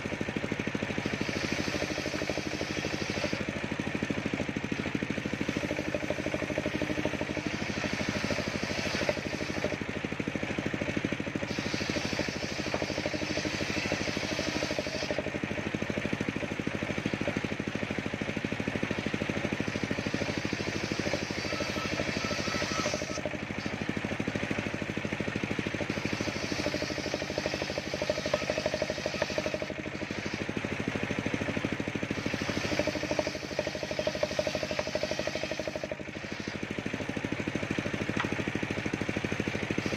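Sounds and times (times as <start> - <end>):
circular saw motor running: 0.0 - 39.9
saw blade cutting wood: 0.7 - 16.2, 18.7 - 24.8, 25.6 - 39.9.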